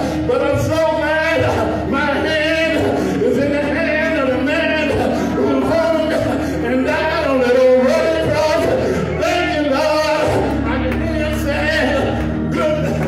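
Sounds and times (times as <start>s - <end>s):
man singing: 0.0s - 13.0s
sustained keyboard chords: 0.0s - 13.0s.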